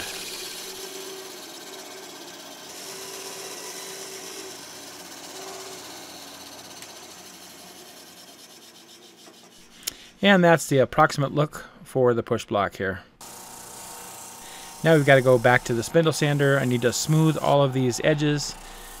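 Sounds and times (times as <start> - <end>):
bandsaw cutting wood: 0.0 - 9.5, 13.2 - 19.0.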